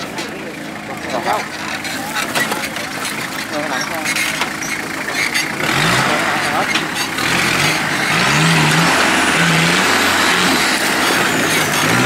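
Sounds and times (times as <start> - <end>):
truck engine revving hard: 0.9 - 12.0.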